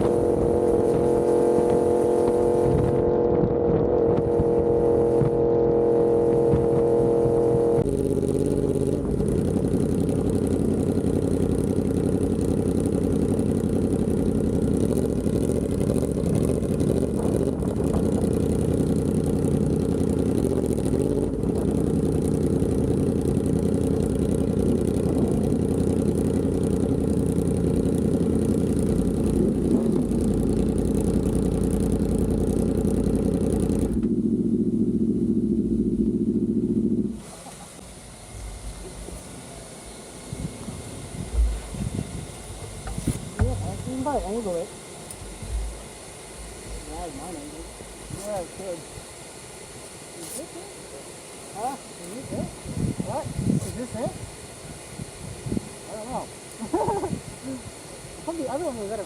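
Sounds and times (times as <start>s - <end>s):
motorcycle engine rumble: 0.0s - 59.0s.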